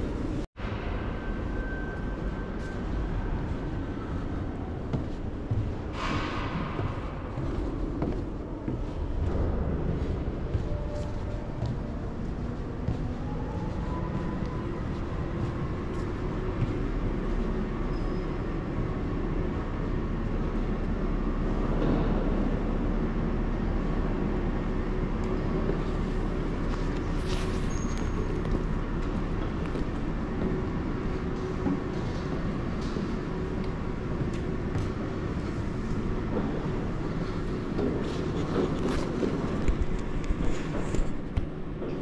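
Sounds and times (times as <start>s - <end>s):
scooter road noise in tunnel: 0.0s - 42.0s.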